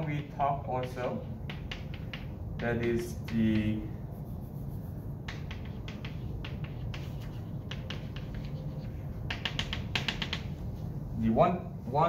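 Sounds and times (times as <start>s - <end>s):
chalk tapping on blackboard: 0.6s - 10.9s.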